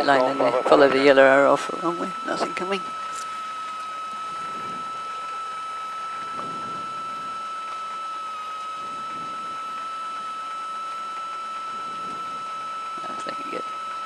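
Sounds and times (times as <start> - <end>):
high-pitched whine: 0.0 - 14.0
light aircraft engine and propeller: 0.0 - 14.0.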